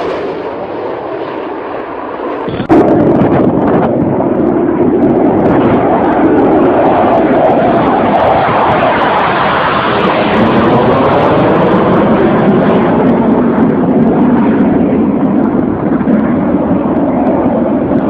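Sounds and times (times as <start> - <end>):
fighter jet roaring past: 0.0 - 18.0.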